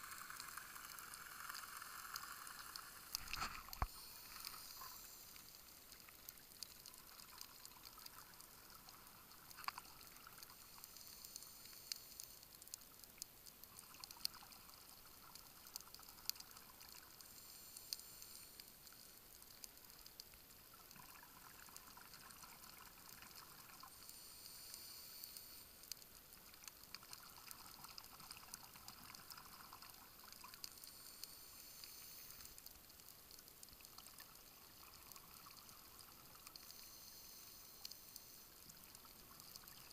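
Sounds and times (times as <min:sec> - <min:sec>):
faint clicks: 0:00.0 - 0:39.9.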